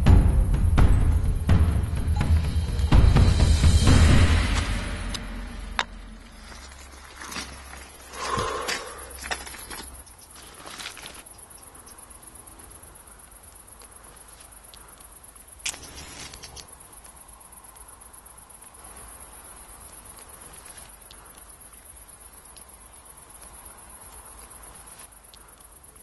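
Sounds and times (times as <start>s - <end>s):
rustling of clothing and leaves: 2.3s - 26.0s.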